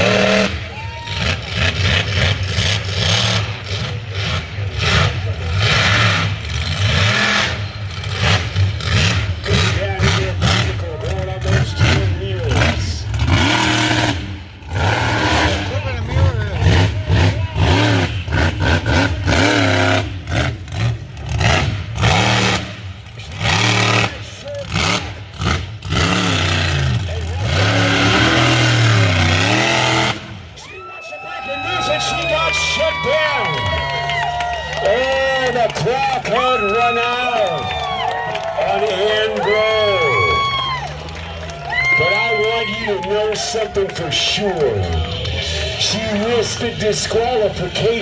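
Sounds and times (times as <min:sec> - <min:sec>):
monster truck engine revving: 0:00.0 - 0:48.0.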